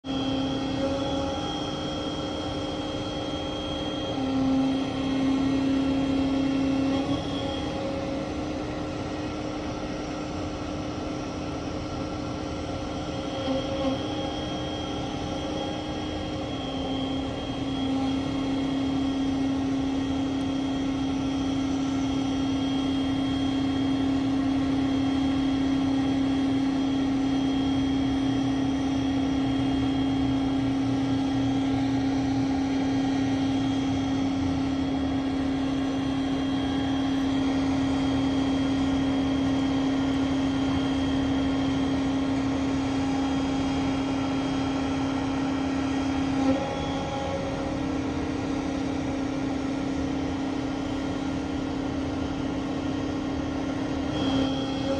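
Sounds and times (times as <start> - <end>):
crane engine and hydraulics droning: 0.0 - 54.9.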